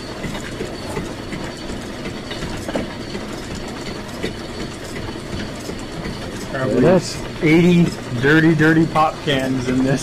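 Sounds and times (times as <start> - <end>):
machinery clatter: 0.0 - 10.0.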